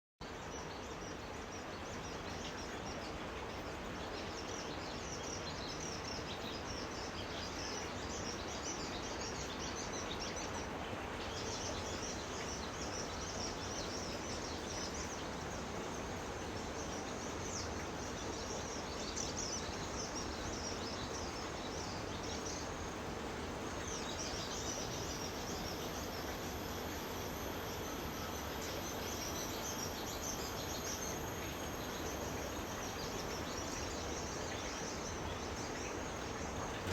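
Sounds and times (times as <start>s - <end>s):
small birds chirping and twittering: 0.2s - 36.9s
steady background hiss: 0.2s - 36.9s.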